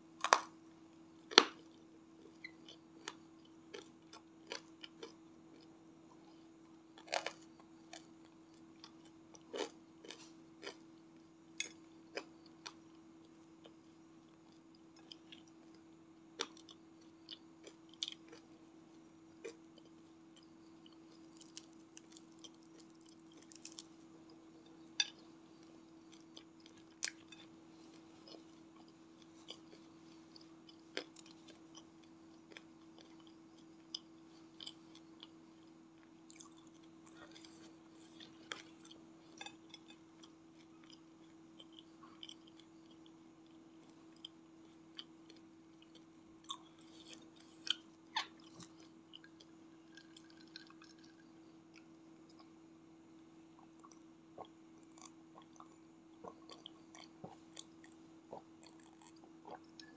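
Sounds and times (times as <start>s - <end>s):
chewing crispy fried snacks: 0.1s - 52.6s, 53.5s - 59.9s.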